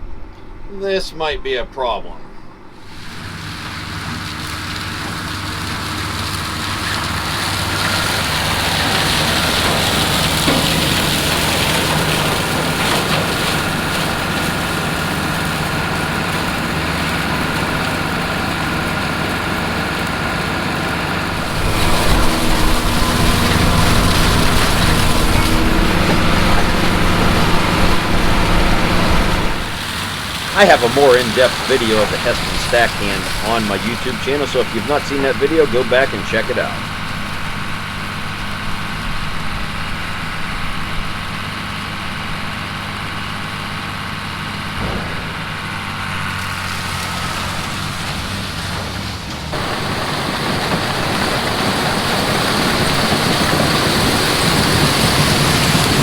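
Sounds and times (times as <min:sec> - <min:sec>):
tractor engine drone: 0:02.1 - 0:56.0.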